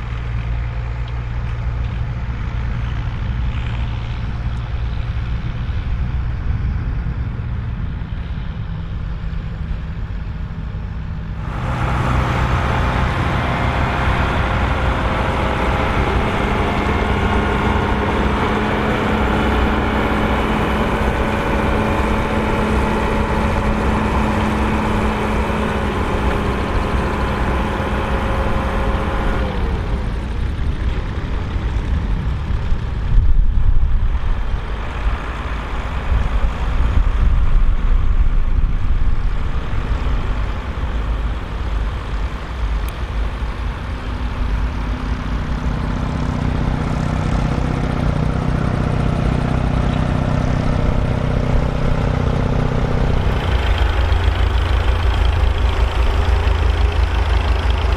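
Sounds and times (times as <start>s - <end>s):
low rumble: 0.0s - 57.9s
tractor diesel engine running: 0.0s - 57.9s.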